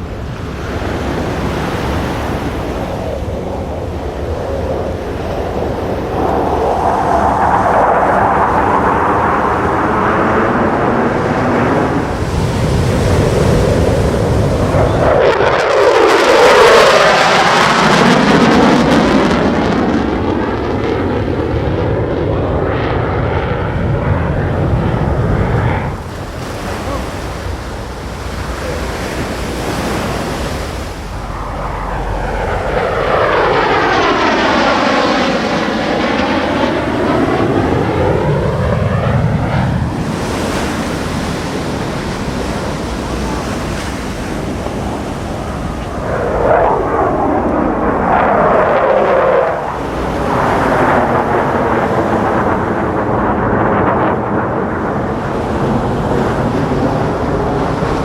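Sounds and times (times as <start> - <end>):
jet engines roaring: 0.0 - 58.0
jet flyby whoosh: 1.6 - 58.0.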